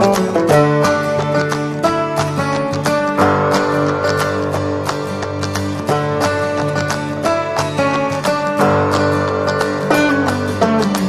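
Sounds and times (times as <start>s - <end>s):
acoustic guitar background music: 0.0s - 11.0s.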